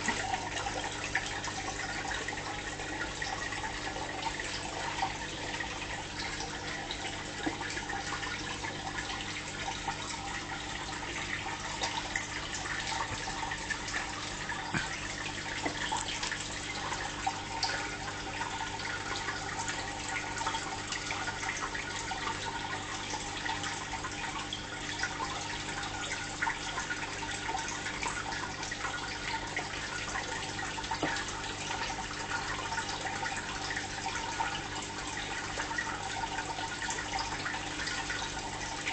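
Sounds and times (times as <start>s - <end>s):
water drips: 0.0s - 38.9s
water trickling and bubbling: 0.0s - 38.9s.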